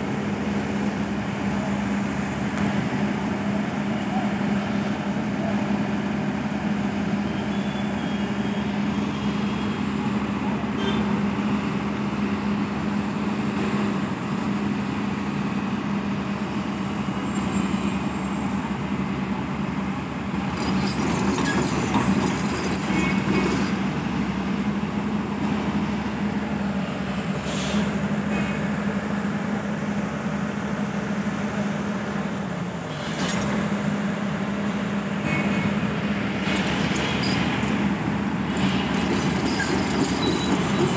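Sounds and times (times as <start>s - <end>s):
heavy machinery diesel engines: 0.0s - 40.9s.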